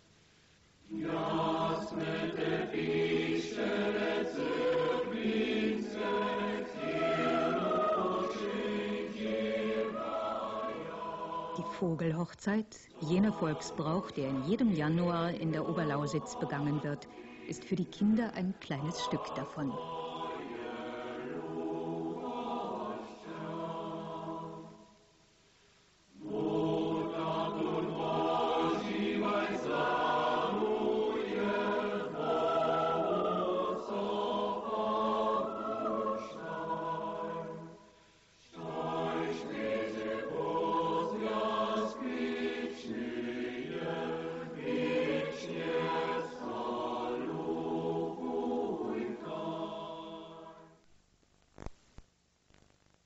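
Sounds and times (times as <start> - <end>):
choir singing harmonies: 0.8 - 25.1, 26.1 - 50.8.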